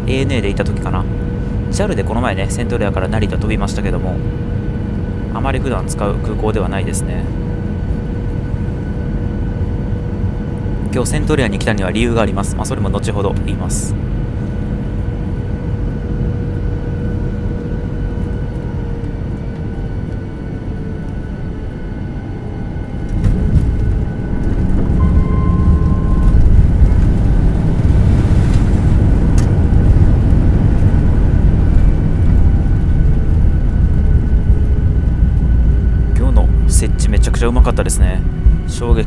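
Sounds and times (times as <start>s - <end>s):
airplane engine hum: 0.0s - 39.0s
low rumble of runway roll: 0.0s - 39.0s.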